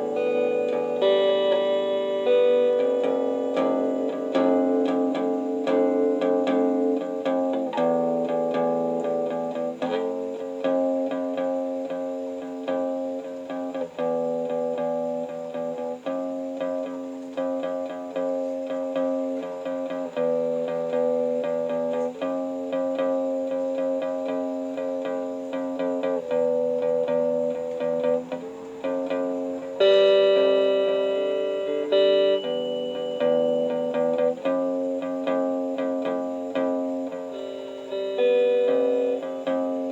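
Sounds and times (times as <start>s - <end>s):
bright guitar strum: 0.0s - 39.9s
guitar chords with long sustain: 0.0s - 39.9s.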